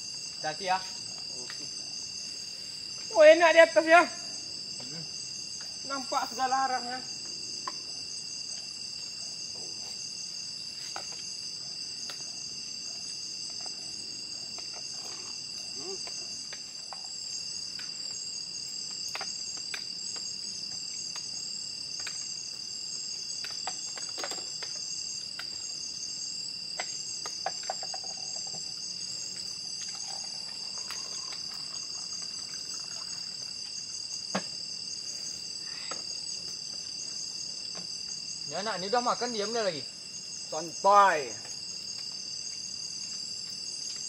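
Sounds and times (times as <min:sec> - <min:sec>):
insects trilling: 0:00.0 - 0:44.0.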